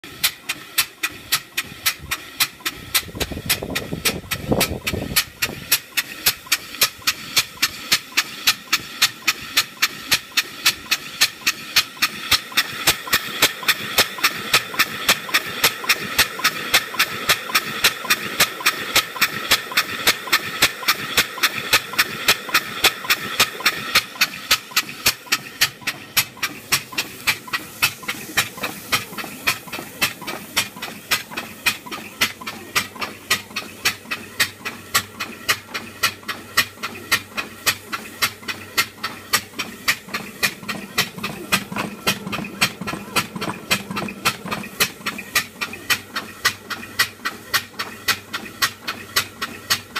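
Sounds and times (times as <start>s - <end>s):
steam engine beat: 0.0s - 49.9s
steam hissing: 0.0s - 49.9s.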